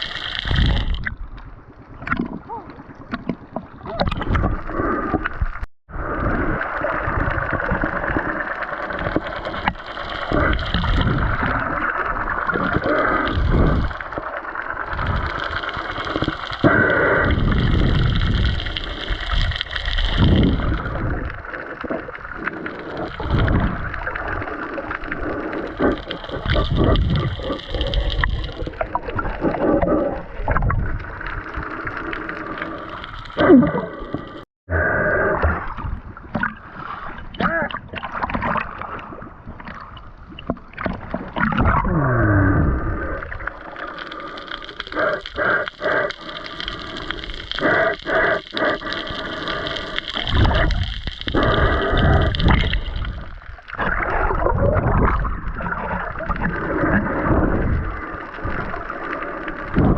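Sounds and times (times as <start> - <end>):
water swishing and gurgling: 0.0 - 59.9.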